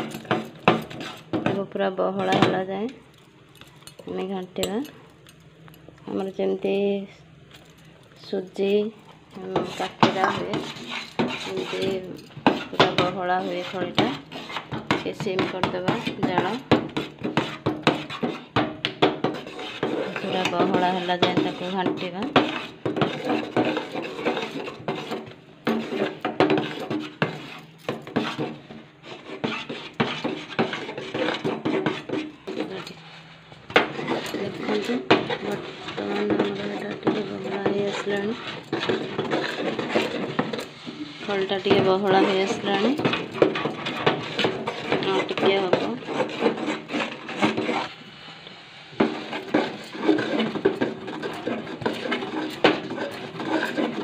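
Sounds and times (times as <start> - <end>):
metal spatula scraping a pot: 0.0 - 3.0, 8.2 - 54.0.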